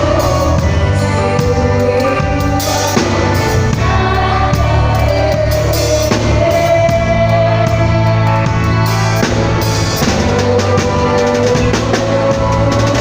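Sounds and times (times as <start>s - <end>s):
drum kit: 0.0s - 13.0s
gospel band playing: 0.0s - 13.0s
person singing: 0.0s - 13.0s.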